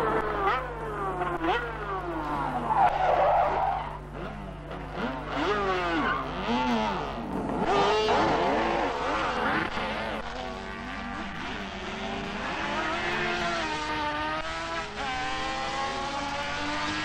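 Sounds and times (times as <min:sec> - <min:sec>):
racing engines at high revs: 0:00.0 - 0:17.0.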